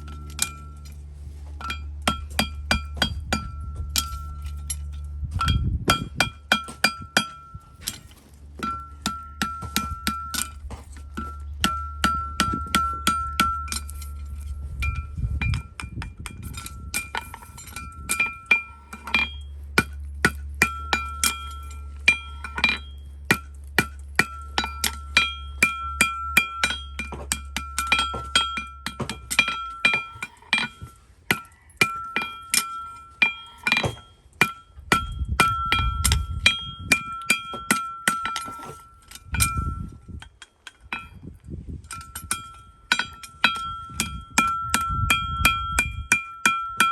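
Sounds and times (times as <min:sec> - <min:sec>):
hammer striking steel: 0:00.0 - 0:41.2, 0:41.9 - 0:46.9
low hum: 0:00.0 - 0:46.9.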